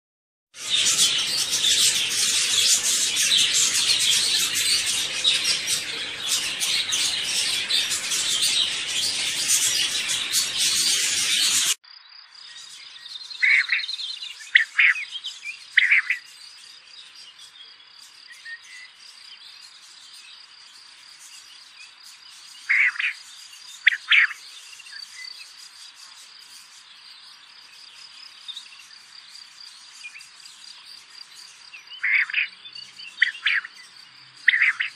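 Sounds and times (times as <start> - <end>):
bird chirps: 0.6 - 34.9.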